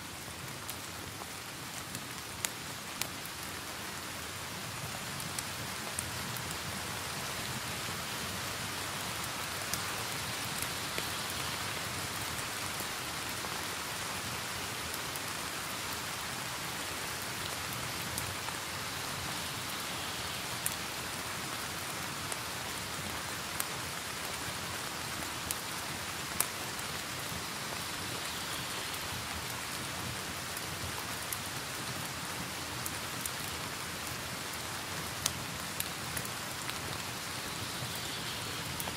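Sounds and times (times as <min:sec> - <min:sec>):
steady rain: 0:00.0 - 0:38.9
wood fire crackling: 0:00.1 - 0:21.1, 0:21.7 - 0:28.4, 0:29.1 - 0:38.9.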